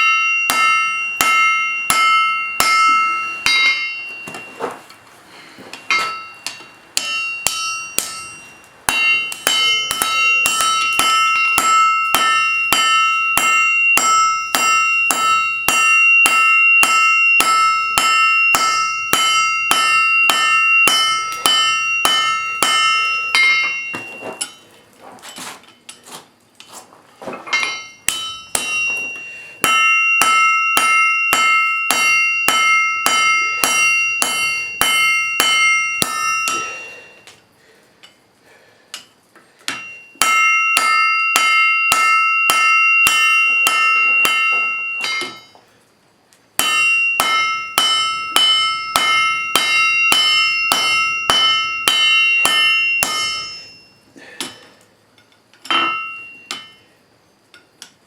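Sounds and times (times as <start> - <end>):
hammer striking steel on anvil: 0.0 - 4.8, 5.7 - 24.7, 27.4 - 37.3, 39.0 - 45.6, 46.6 - 56.9.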